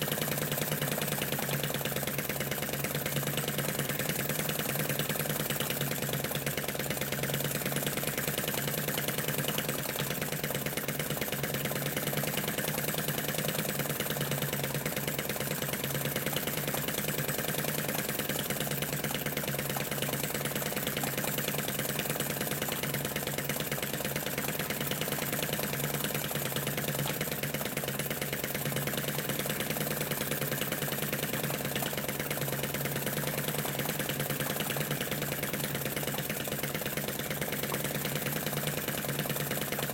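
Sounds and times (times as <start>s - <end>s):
model engine running steadily: 0.0s - 39.9s.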